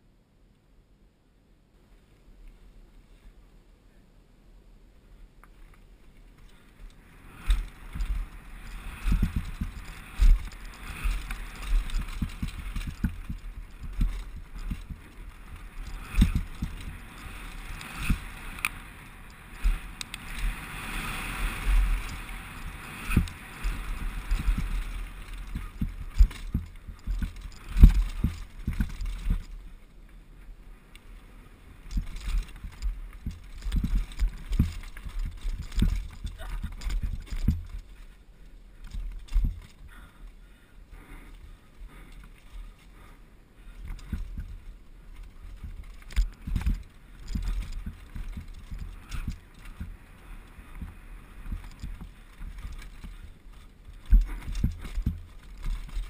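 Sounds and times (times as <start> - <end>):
bike thumping and rattling: 6.4 - 29.9, 31.8 - 40.3, 41.1 - 56.0.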